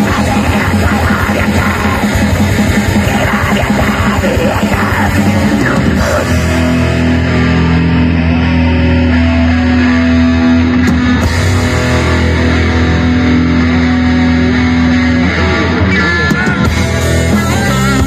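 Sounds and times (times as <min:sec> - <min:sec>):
metal band playing: 0:00.0 - 0:18.0.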